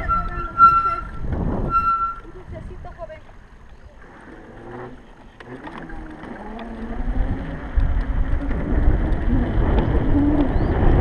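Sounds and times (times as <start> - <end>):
wind buffeting microphone: 0.0 - 4.8, 5.4 - 11.0
road noise: 0.0 - 11.0.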